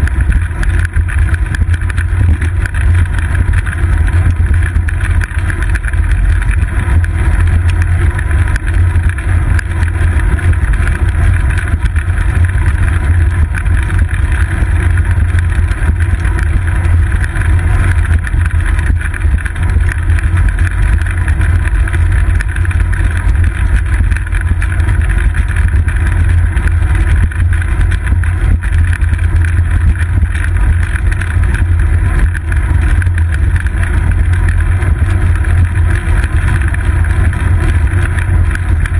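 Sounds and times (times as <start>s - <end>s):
road vibration and wind rumble: 0.0s - 38.9s.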